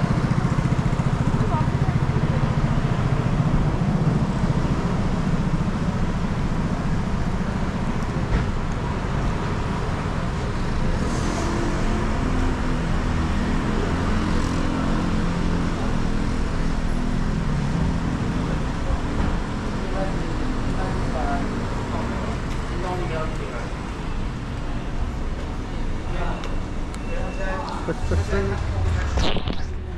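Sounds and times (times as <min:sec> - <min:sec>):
cars passing slowly: 0:00.0 - 0:29.9.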